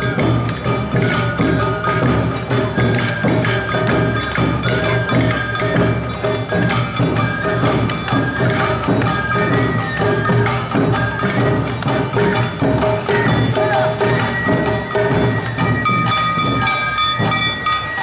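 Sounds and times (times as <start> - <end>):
drums beating: 0.0 - 18.0
hand gongs clanging: 0.0 - 18.0
held melodic tones: 0.0 - 18.0.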